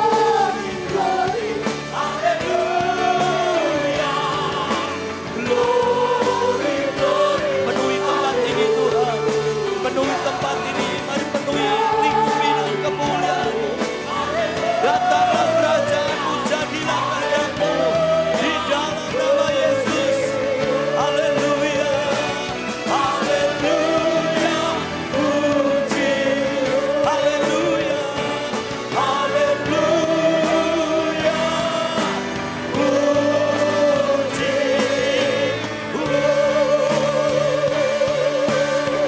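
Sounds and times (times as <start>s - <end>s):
singers with musical accompaniment: 0.0s - 39.0s.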